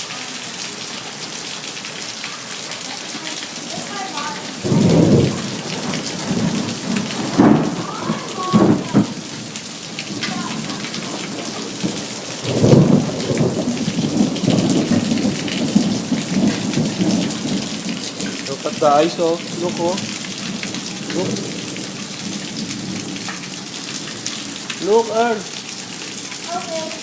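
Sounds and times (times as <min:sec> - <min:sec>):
hail pelting: 0:00.0 - 0:27.0.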